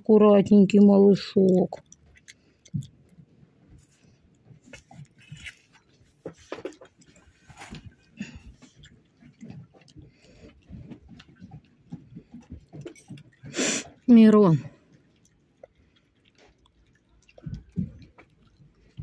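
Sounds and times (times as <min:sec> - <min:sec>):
animal chewing with smacking: 0:00.4 - 0:19.0.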